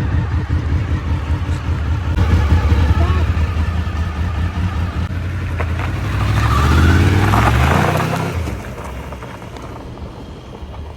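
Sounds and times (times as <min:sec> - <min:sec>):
motorcycle engine accelerating: 0:00.0 - 0:10.9.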